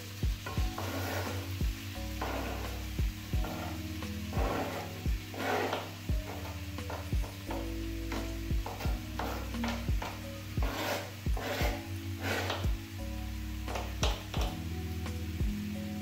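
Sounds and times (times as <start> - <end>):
food sizzling in a frying pan: 0.0 - 16.0
scraping and knocking against pan: 0.4 - 12.8, 13.7 - 14.6.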